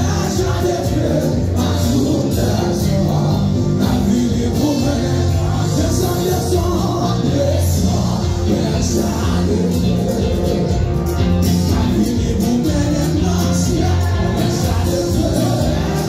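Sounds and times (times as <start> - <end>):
band playing with heavy bass: 0.0 - 16.0
voices singing: 0.0 - 16.0.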